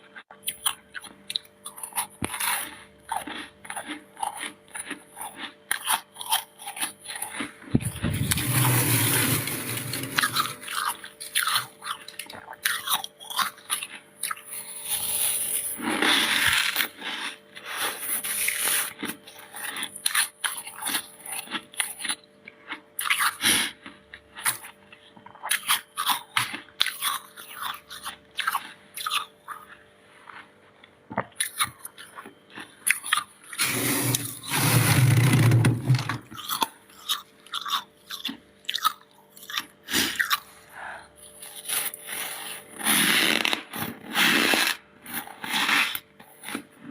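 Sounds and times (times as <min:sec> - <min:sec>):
frost crunching while chewed: 0:00.1 - 0:33.6, 0:36.2 - 0:46.9.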